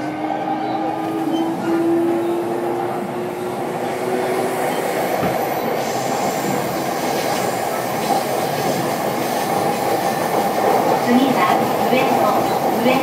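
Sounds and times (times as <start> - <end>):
train traction equipment: 0.0 - 13.0
train wheels rolling on rails: 0.0 - 13.0.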